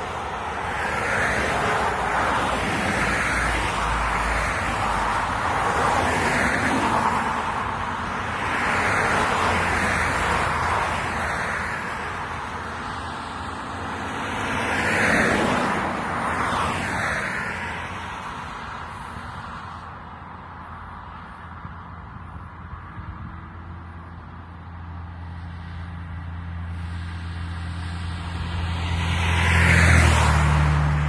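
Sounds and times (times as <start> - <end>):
cars passing on highway: 0.0 - 31.0.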